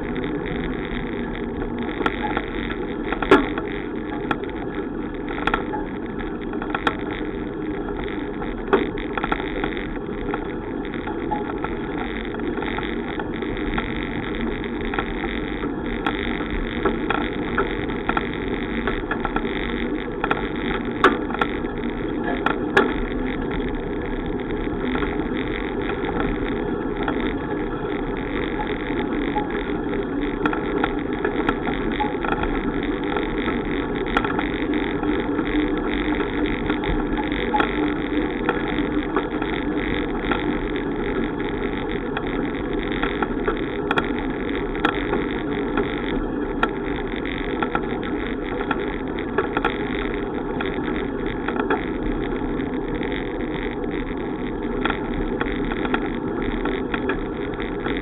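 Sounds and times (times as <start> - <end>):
bicycle rolling noise: 0.0 - 58.0
sharp clicks and knocks: 0.0 - 58.0.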